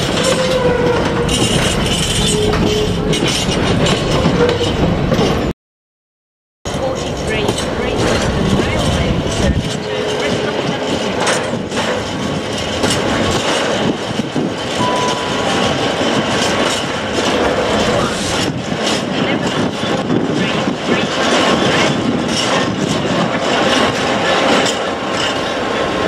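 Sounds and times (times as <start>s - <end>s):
diesel locomotive engine: 0.0s - 5.5s, 6.7s - 26.0s
train wheels clicking over rail joints: 0.0s - 5.5s, 6.7s - 26.0s.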